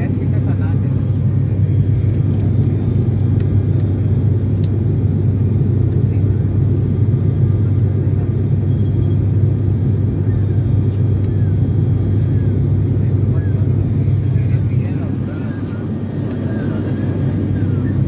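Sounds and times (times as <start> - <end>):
airliner cabin engine drone: 0.0 - 18.0.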